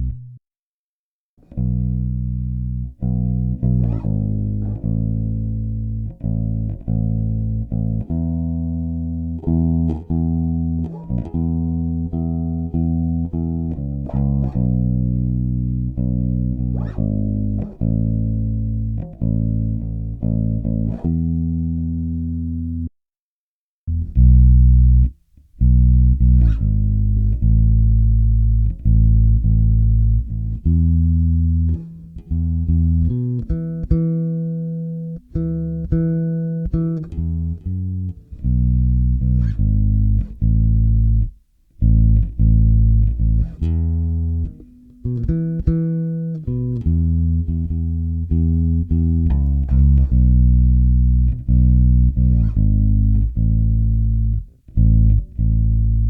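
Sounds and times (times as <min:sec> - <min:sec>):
electric bass plucked notes: 0:00.0 - 0:00.4, 0:01.4 - 0:22.9, 0:23.9 - 0:56.0.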